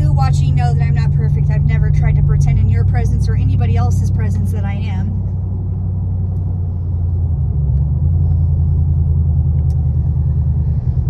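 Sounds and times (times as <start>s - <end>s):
vehicle cabin engine drone: 0.0s - 11.0s.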